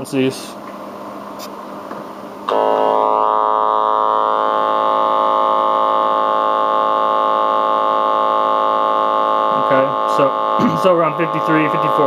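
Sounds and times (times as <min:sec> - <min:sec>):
buzzy low test tone: 0:00.0 - 0:12.0.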